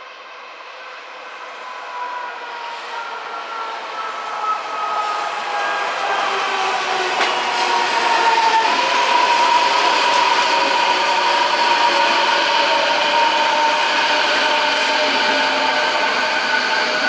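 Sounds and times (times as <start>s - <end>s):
electric train inverter whine: 0.0s - 17.0s
train wheels rumbling: 2.6s - 17.0s.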